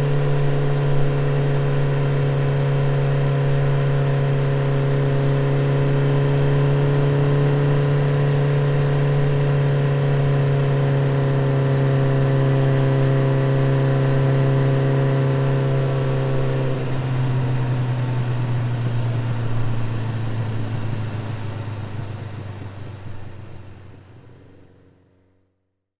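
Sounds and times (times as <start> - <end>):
motorcycle engine running: 0.0 - 25.4.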